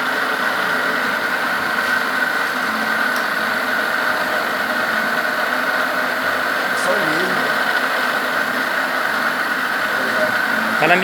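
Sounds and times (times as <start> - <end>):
boring machine humming and whining: 0.0 - 11.0.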